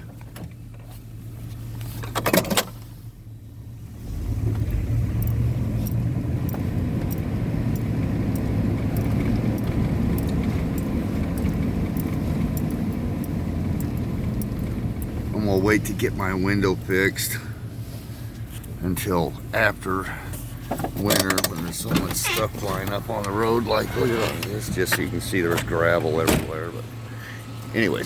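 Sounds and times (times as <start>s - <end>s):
car driving with tyre rumble: 0.0s - 28.0s
car engine idling: 0.0s - 28.0s.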